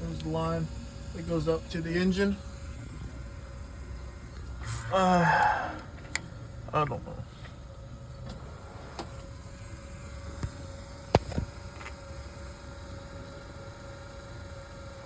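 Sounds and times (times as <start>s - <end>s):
electric fuel pump humming: 0.0s - 15.0s.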